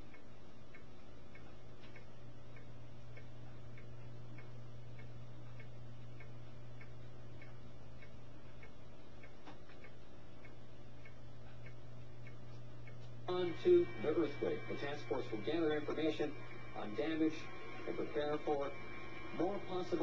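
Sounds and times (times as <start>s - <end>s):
low hum: 0.0s - 20.0s
regular ticking: 0.0s - 20.0s.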